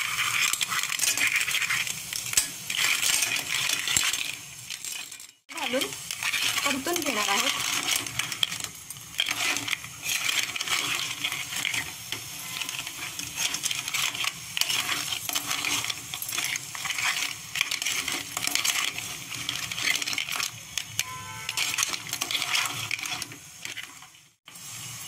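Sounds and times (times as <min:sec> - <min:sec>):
spoon scraping steel pot: 0:00.0 - 0:24.1
frying sizzle: 0:00.0 - 0:25.0.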